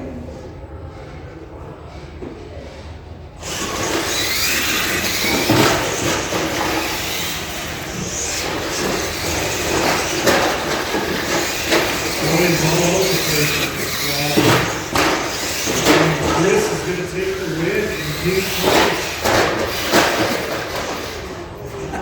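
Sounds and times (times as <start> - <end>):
tyres on track: 3.0 - 22.0
toy trucks knocking on landing: 3.4 - 21.3
electric motors whining: 3.4 - 22.0.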